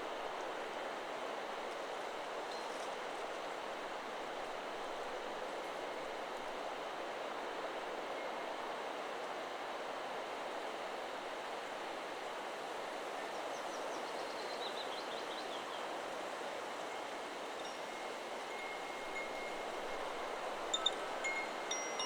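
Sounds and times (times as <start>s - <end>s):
wind rushing through trees: 0.0s - 22.0s.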